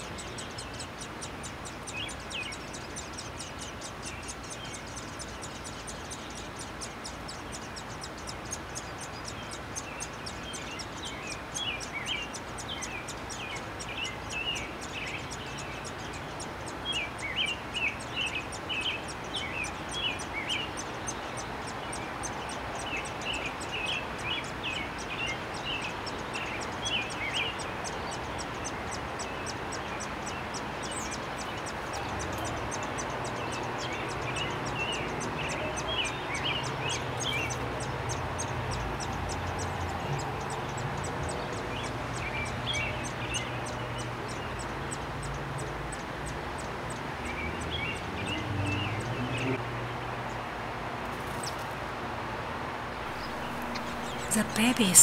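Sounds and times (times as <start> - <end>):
songbird singing: 0.0 - 52.0, 53.0 - 55.0
outdoor background noise: 0.0 - 55.0.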